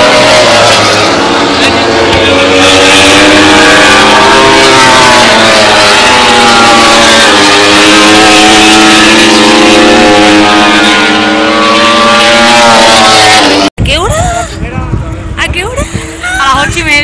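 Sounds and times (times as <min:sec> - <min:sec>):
racing motorcycle engines: 0:00.0 - 0:13.7.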